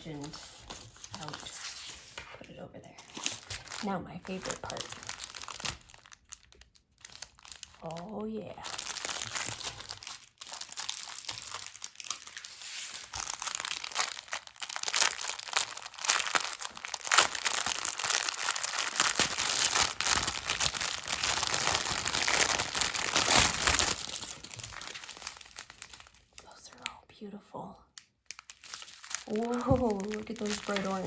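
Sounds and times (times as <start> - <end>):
plastic packaging crinkling: 0.0 - 26.8, 28.0 - 31.0.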